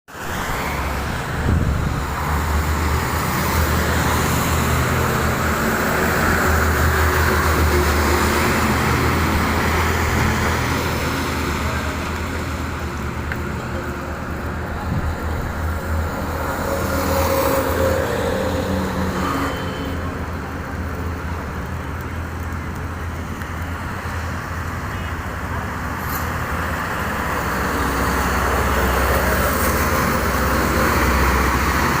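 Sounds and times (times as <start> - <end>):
traffic hiss: 0.1 - 32.0
vehicles passing: 0.1 - 32.0.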